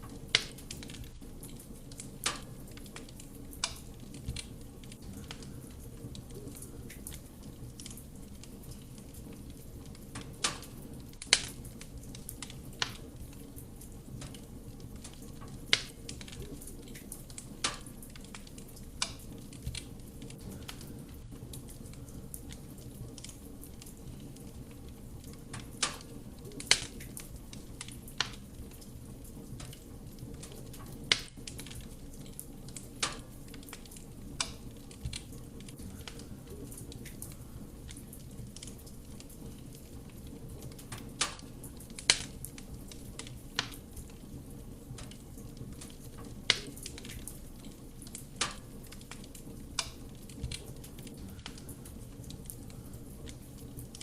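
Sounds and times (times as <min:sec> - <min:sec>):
fire burning with low rumble: 0:00.0 - 0:54.0
logs popping and crackling: 0:00.0 - 0:54.0.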